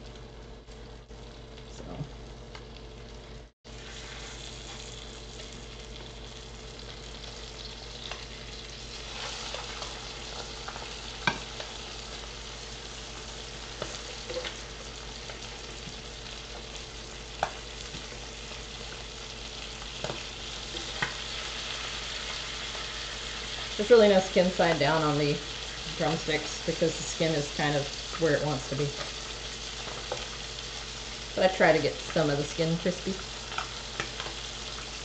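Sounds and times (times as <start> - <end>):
chicken sizzling in skillet: 2.7 - 35.0.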